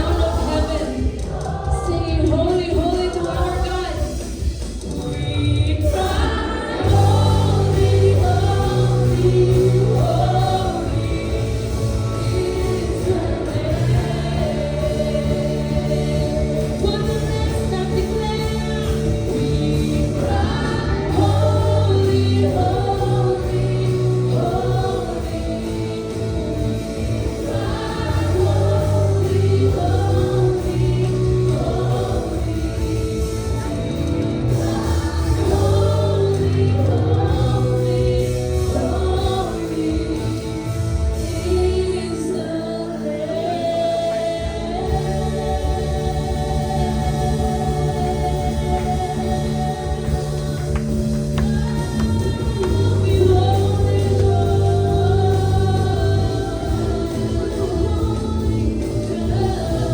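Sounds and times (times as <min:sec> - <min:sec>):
band accompaniment: 0:00.0 - 0:59.9
group singing worship song: 0:00.0 - 0:59.9.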